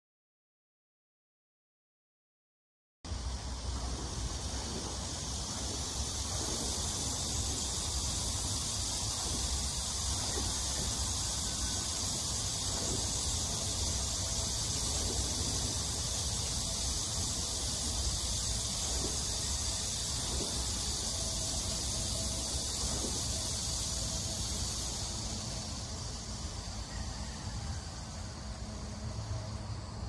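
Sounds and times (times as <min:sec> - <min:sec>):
insects buzzing: 0:03.1 - 0:30.0.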